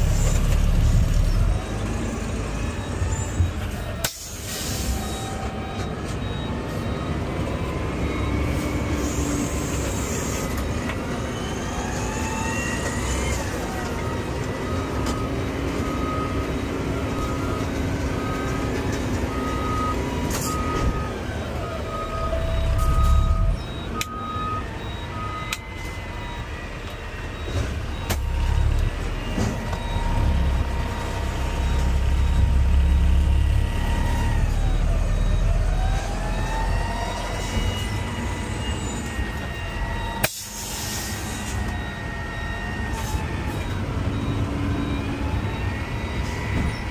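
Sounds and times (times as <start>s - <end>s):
diesel truck engine shifting gears: 0.0s - 46.9s
warning alarm beeping: 0.0s - 46.9s.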